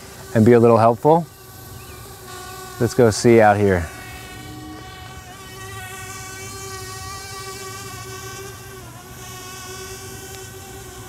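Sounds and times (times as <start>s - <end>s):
quadcopter motors whining hum: 0.0s - 11.0s.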